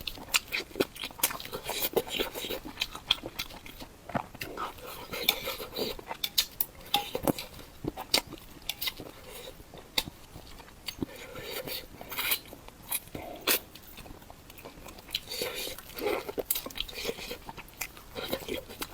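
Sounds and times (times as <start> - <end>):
crunchy chewing: 0.0 - 18.9.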